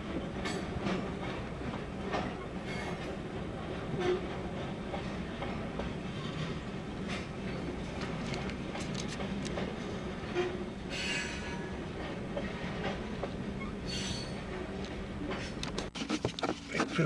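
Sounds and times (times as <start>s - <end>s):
train rumble with wheel clicks: 0.0s - 17.0s.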